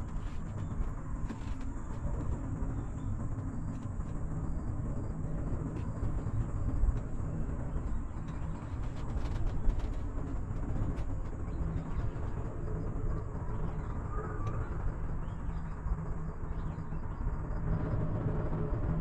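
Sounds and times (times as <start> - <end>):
cable car cabin rumble: 0.0 - 19.0.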